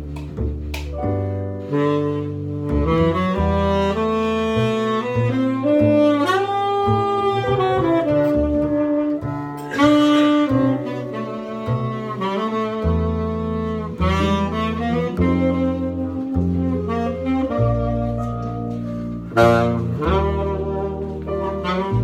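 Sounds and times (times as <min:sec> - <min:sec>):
jazz lead melody: 0:00.0 - 0:22.0
plucked double bass: 0:00.0 - 0:22.0.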